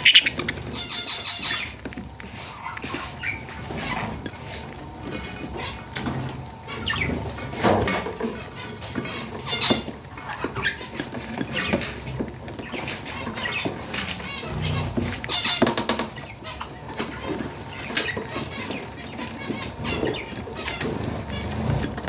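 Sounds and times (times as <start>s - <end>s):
budgerigar chicks squeaking: 0.0s - 22.0s.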